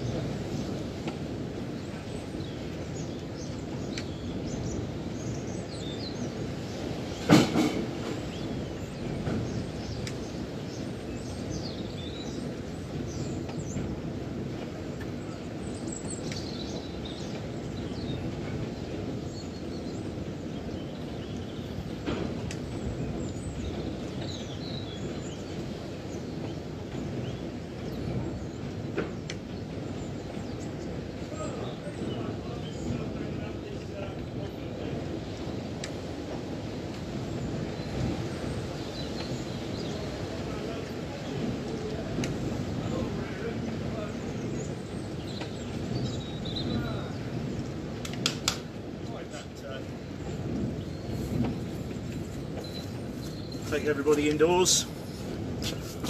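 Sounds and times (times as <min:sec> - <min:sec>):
small birds chirping: 0:00.0 - 0:56.0
wind rumble: 0:00.0 - 0:56.0.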